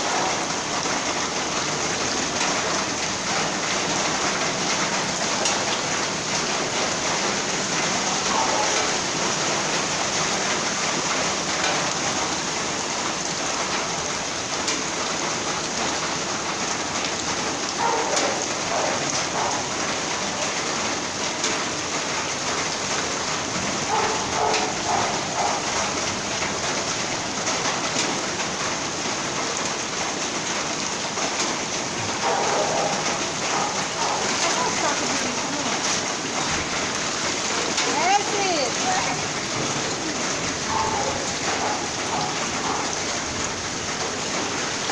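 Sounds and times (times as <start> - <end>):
heavy rain on hard surfaces: 0.0 - 44.9.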